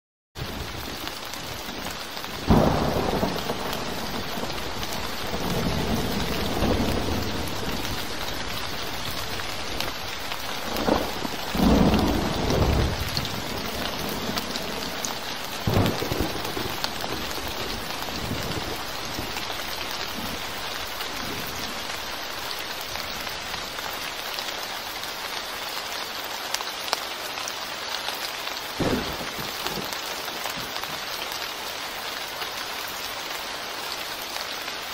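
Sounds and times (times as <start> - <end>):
rain on puddled surface: 0.4 - 34.9.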